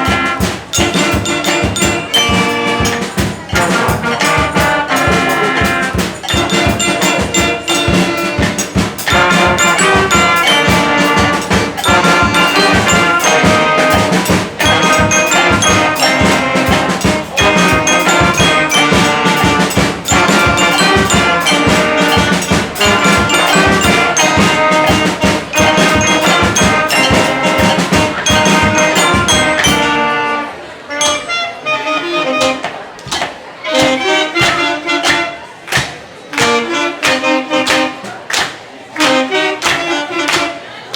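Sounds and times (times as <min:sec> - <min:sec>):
school brass band playing: 0:00.0 - 0:40.9.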